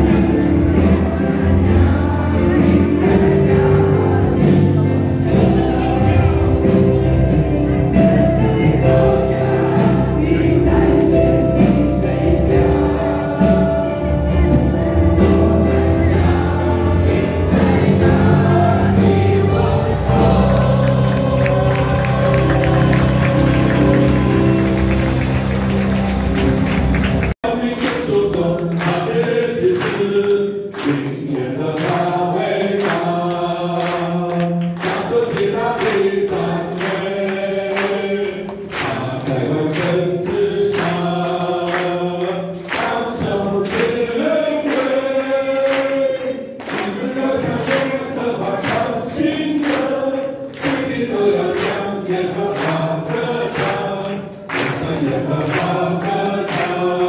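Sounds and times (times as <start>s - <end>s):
group singing worship song: 0.0s - 57.0s
music accompaniment with steady beat: 0.0s - 57.0s.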